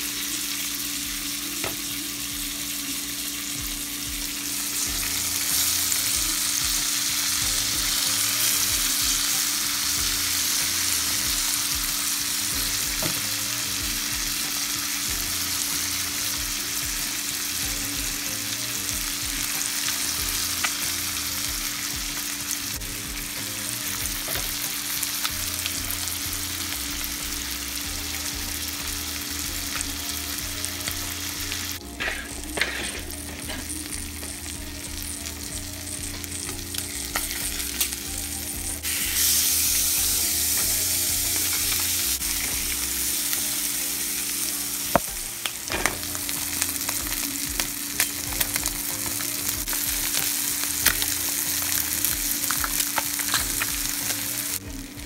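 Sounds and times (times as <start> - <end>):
seafood sizzling in frying pan: 0.0 - 55.0.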